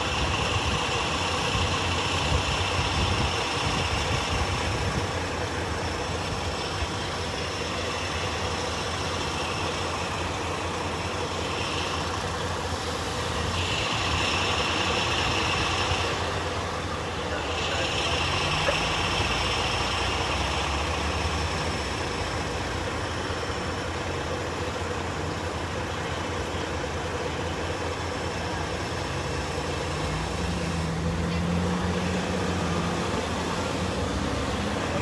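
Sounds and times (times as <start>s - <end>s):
large vehicle engine idling: 0.0s - 35.0s.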